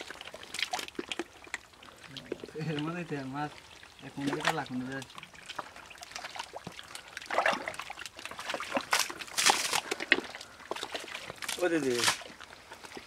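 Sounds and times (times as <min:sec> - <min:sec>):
hands splashing in muddy water: 0:00.0 - 0:03.1, 0:04.1 - 0:13.0.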